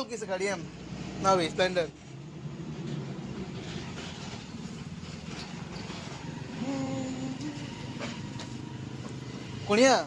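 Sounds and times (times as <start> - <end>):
vehicle engine rumble: 0.3 - 9.9.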